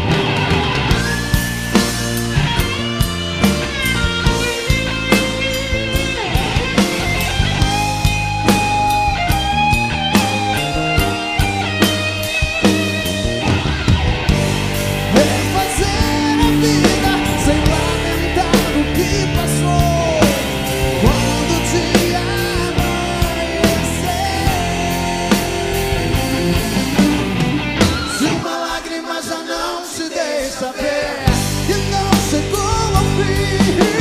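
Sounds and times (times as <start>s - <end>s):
electric guitar solo: 0.0s - 28.4s
steady drum beat: 0.0s - 28.6s, 31.2s - 34.0s.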